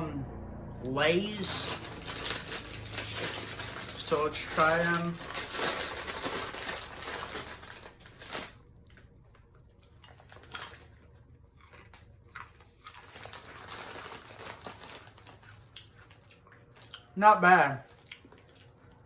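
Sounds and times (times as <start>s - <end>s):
person chewing potato chips: 1.3s - 17.2s, 17.8s - 19.0s.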